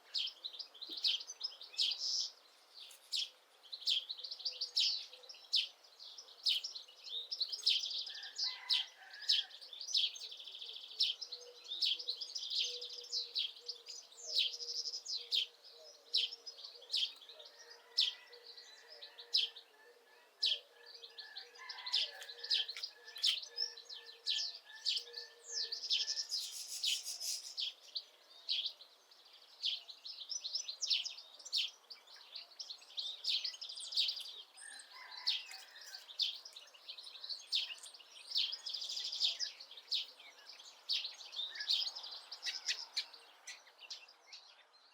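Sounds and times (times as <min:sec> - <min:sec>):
songbirds chirping and trilling: 0:00.0 - 0:44.9.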